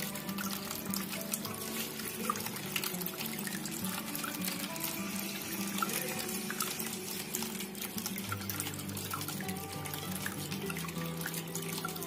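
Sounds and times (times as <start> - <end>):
fountain water trickling and splashing: 0.0 - 12.0
soft instrumental music: 0.0 - 12.0.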